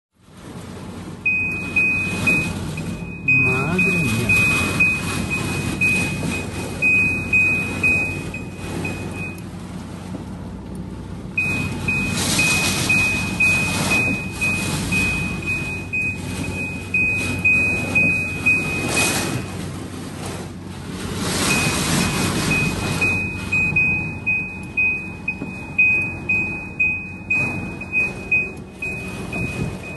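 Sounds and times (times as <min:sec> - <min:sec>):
gusting wind: 0:00.2 - 0:29.9
heavy rain beating on a car: 0:00.3 - 0:29.9
high electronic beep: 0:01.3 - 0:09.4, 0:11.4 - 0:19.5, 0:21.5 - 0:29.9.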